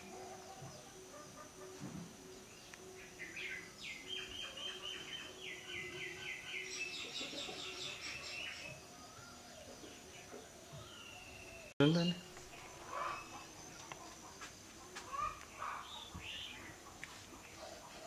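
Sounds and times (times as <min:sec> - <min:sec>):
bird chirping: 0:00.0 - 0:14.4, 0:15.1 - 0:18.0.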